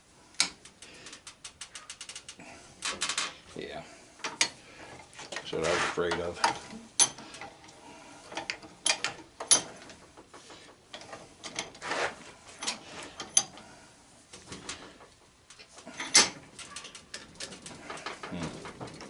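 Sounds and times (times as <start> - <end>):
metal clicks and clanks: 0.4 - 3.4, 4.2 - 11.9, 12.5 - 13.7, 14.3 - 19.0.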